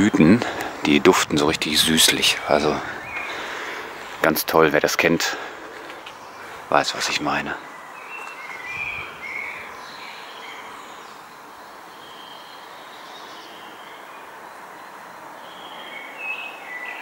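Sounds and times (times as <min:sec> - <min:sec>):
faint outdoor hiss: 0:00.0 - 0:17.0
small songbirds chirping: 0:00.0 - 0:17.0.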